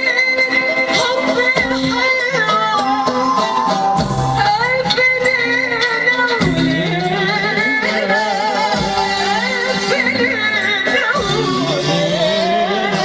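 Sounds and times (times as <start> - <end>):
band accompaniment: 0.0 - 13.0
woman singing into a microphone: 0.0 - 13.0.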